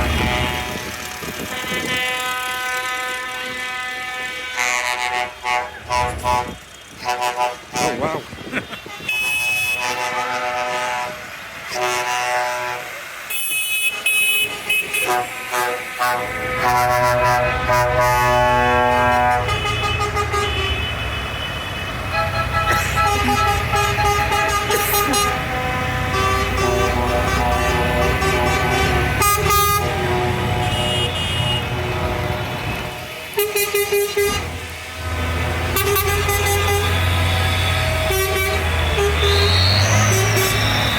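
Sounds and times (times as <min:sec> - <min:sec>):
tractor engines running: 0:00.0 - 0:40.9
vehicle horns tooting: 0:00.0 - 0:40.9.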